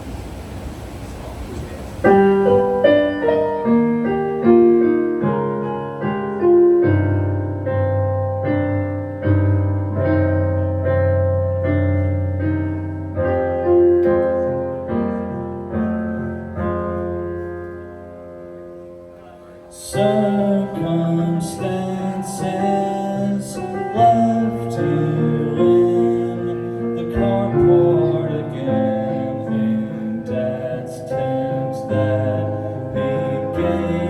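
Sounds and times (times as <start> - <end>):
solo piano playing: 0.0 - 34.0.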